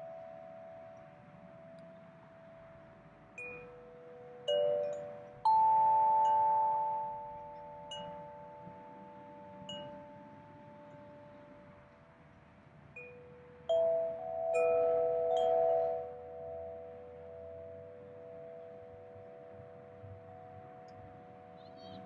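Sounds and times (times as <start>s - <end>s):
wind chime ringing: 0.0s - 12.4s, 13.0s - 22.0s.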